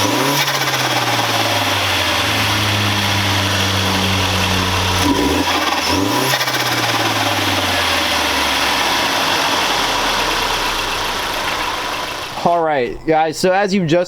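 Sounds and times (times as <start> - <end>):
intake rushing noise: 0.0 - 12.5
car engine revving: 0.0 - 12.6.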